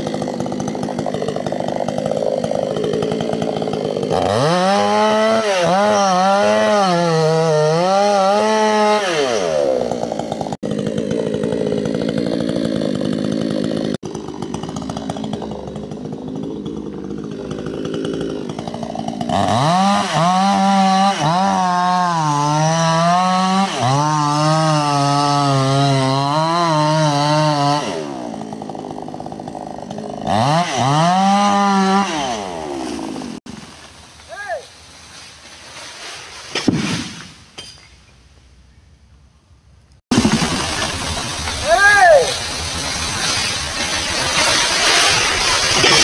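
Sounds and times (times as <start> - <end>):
chainsaw cutting wood: 0.0 - 37.7, 40.0 - 46.0.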